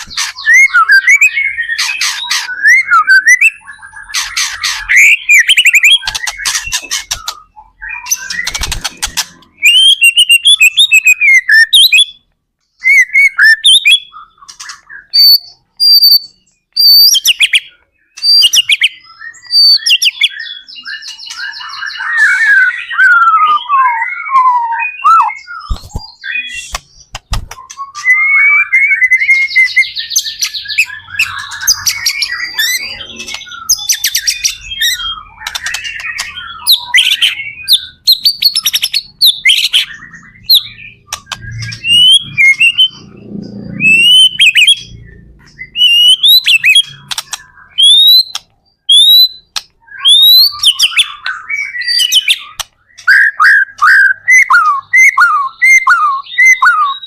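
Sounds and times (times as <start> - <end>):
songbird singing whistles and trills: 0.0 - 57.0.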